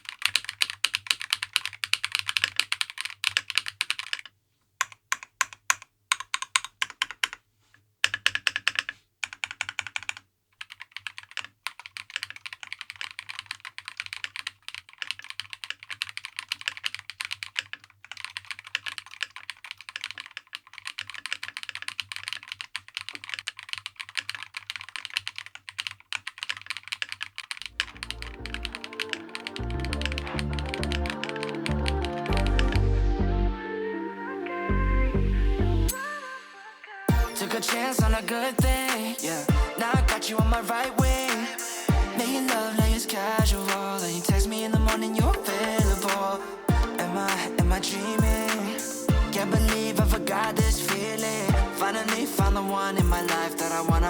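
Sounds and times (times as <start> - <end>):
mechanical keyboard typing: 0.0 - 7.4, 8.0 - 32.8, 37.1 - 54.0.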